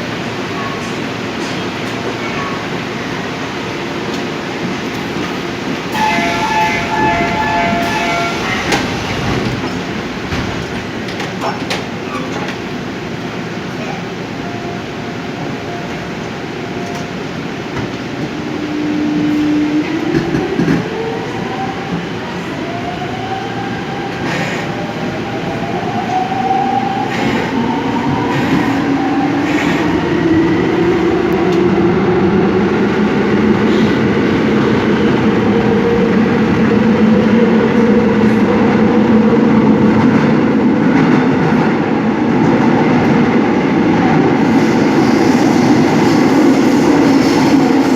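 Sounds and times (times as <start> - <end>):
train running noise: 0.0 - 47.9.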